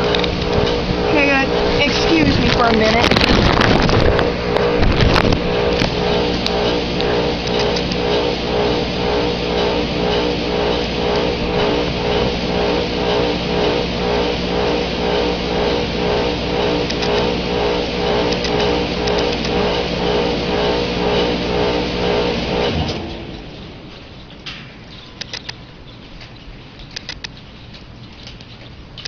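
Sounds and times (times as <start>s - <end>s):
heat pump humming with pulsing beat: 0.0s - 29.0s.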